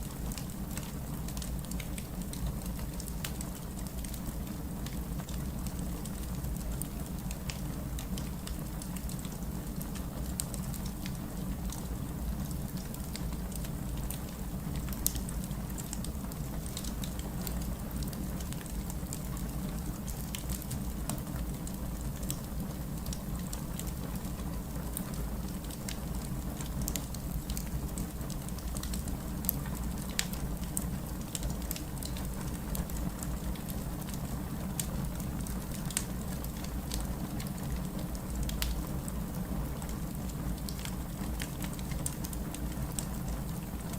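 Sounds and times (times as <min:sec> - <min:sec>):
fireplace fire crackling: 0:00.0 - 0:43.9.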